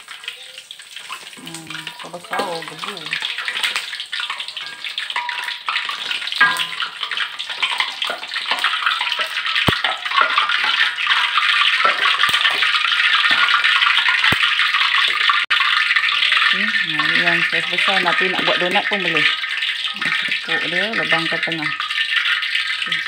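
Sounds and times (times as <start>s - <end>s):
hot oil sizzling and crackling: 0.0s - 23.0s.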